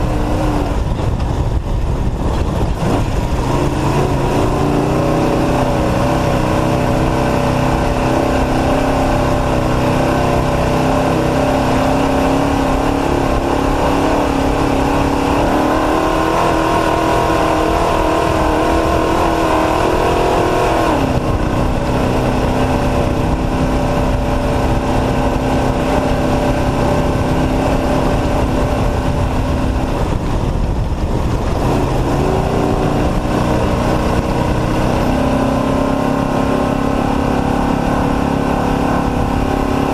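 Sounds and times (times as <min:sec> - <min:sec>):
road and wind noise: 0:00.0 - 0:39.9
truck engine running hard: 0:00.0 - 0:39.9.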